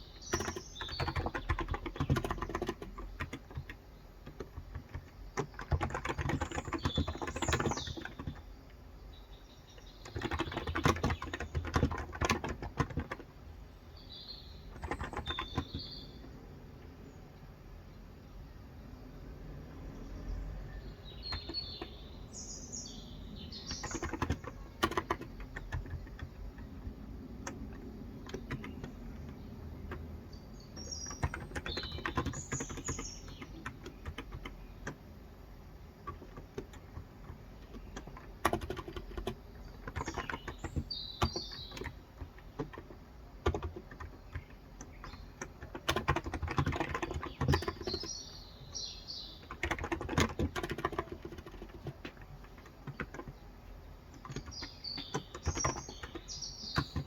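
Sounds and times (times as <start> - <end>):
keyboard typing clatter: 0.0 - 8.8, 9.8 - 13.6, 14.5 - 16.6, 21.0 - 22.3, 22.9 - 57.0
birds chirping: 0.0 - 57.0.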